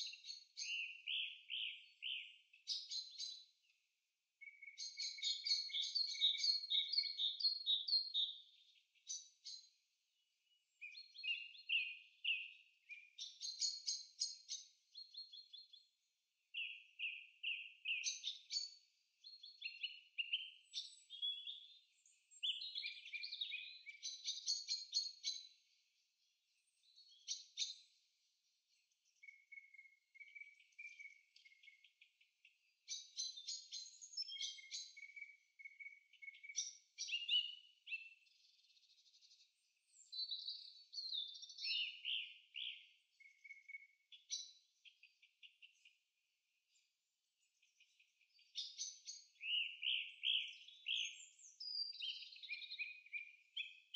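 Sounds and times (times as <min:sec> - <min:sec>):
songbird singing trills: 0:00.0 - 0:53.9.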